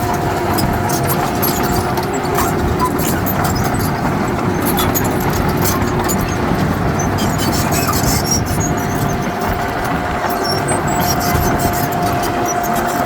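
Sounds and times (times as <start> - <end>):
diesel machine engine running: 0.0 - 13.0
high-pitched squeaks and clicks: 0.0 - 13.0.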